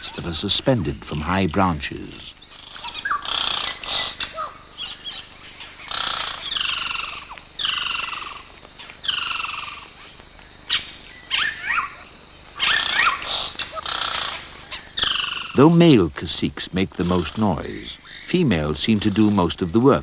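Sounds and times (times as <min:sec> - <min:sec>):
birds chirping and clicking: 0:00.0 - 0:20.0
harsh bird calls: 0:00.0 - 0:20.0.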